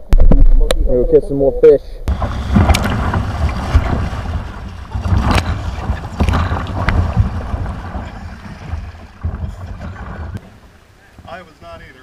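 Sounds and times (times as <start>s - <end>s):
low rumble of water: 2.1s - 12.0s
wind buffeting microphone: 2.1s - 12.0s.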